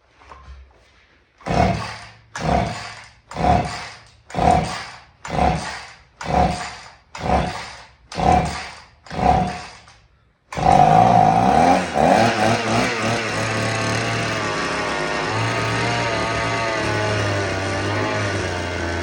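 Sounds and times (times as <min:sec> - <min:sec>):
chainsaw recoil starter pulls: 0:01.4 - 0:19.0.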